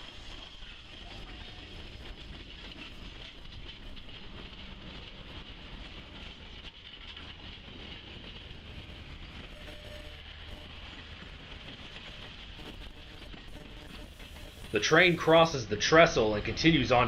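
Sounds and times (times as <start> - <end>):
rail clatter: 0.0 - 17.0
train wheels rumbling: 0.0 - 17.0.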